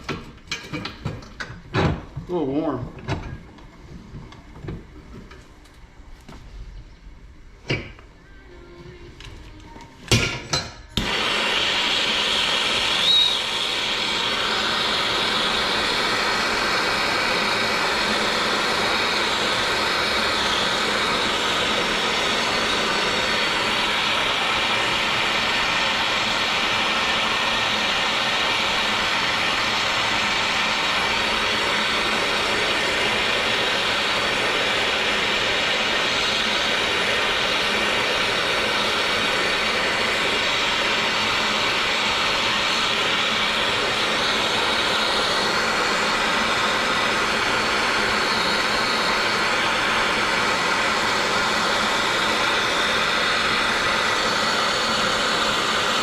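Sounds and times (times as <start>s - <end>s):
machine hissing steadily: 11.0s - 56.0s.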